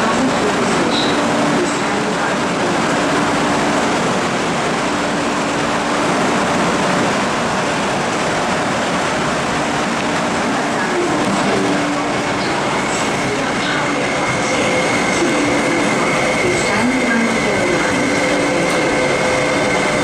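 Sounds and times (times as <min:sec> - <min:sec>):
electric train approaching: 0:00.0 - 0:20.0.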